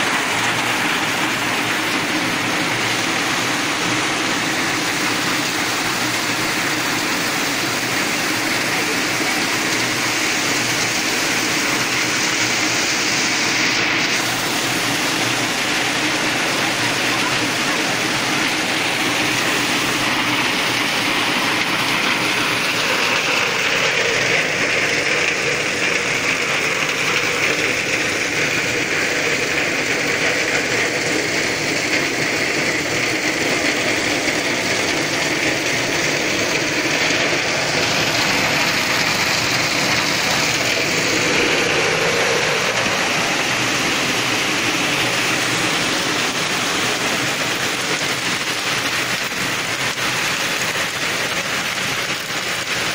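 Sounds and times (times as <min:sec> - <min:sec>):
rain on metal roofing: 0:00.0 - 0:52.9
runoff splashing onto metal sheet: 0:00.0 - 0:52.9.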